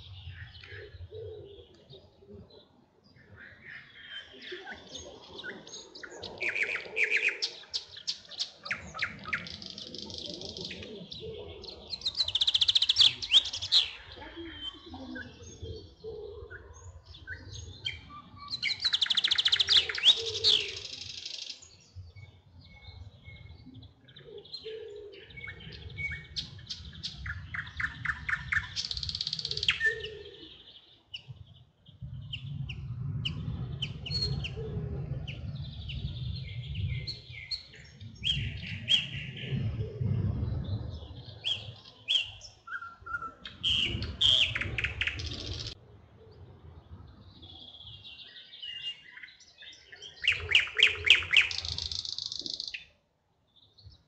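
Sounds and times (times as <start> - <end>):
songbirds trilling and whistling: 0.0 - 54.0.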